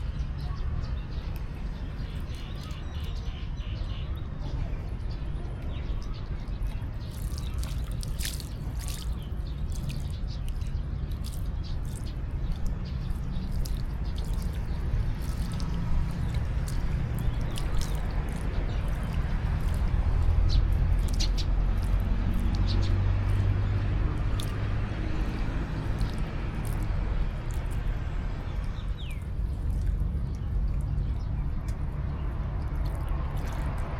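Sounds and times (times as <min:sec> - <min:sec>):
water splashing in a pool: 0:00.0 - 0:03.4, 0:05.6 - 0:33.9
steady low rumble: 0:00.0 - 0:33.9.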